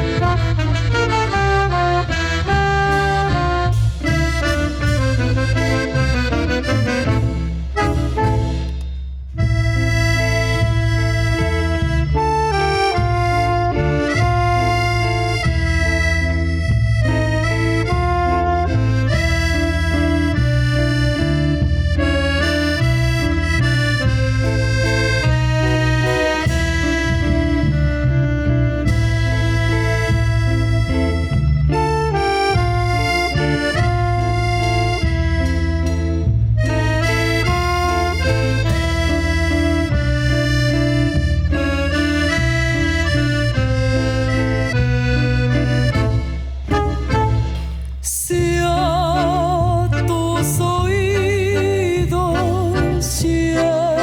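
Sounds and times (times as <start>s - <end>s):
accordion melody: 0.0s - 54.0s
live band playing: 0.0s - 54.0s
pulsing bass line: 0.0s - 54.0s.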